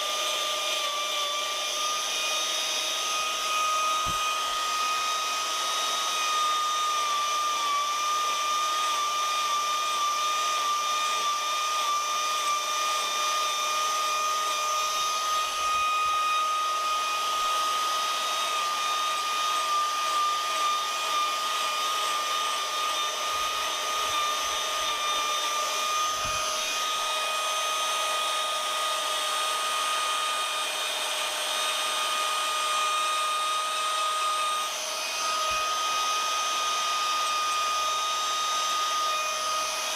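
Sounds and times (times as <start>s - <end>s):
power carving tool whining: 0.0s - 39.9s.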